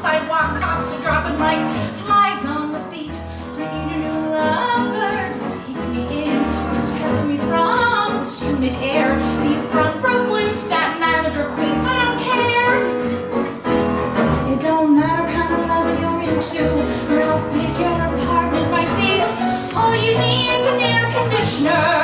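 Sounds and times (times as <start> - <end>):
woman singing: 0.0 - 13.0, 14.4 - 22.0
band with piano and drums: 0.0 - 22.0.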